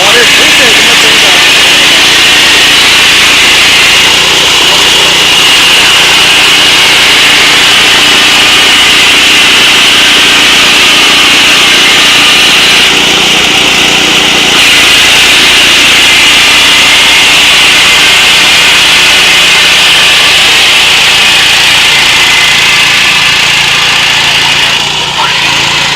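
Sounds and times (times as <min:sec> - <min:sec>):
combine harvester running: 0:00.0 - 0:25.9
constant high whine: 0:00.0 - 0:25.9.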